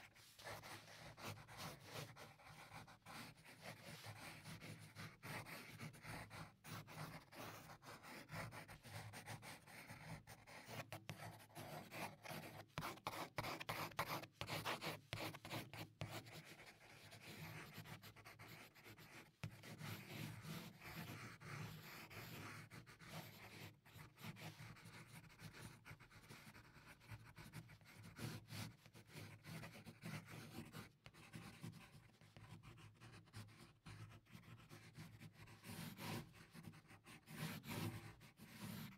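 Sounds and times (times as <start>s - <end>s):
pencil scratching on paper: 0.0s - 38.9s.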